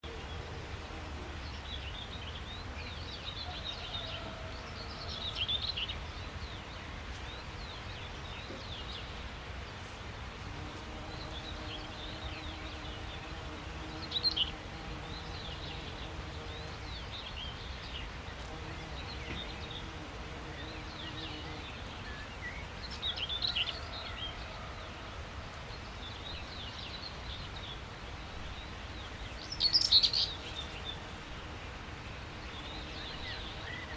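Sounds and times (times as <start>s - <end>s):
songbirds chirping and calling: 0.0s - 33.9s.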